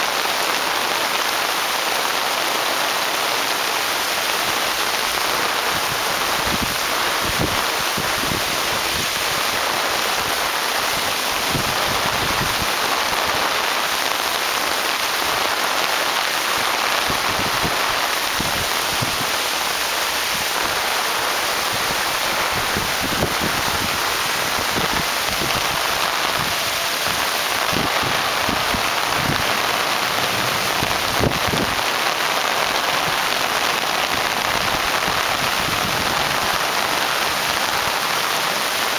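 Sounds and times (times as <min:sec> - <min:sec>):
heavy rain on grass: 0:00.0 - 0:38.9.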